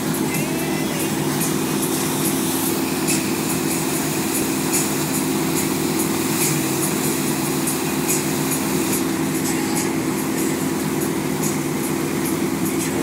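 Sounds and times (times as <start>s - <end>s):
boat engine hum: 0.0s - 13.0s.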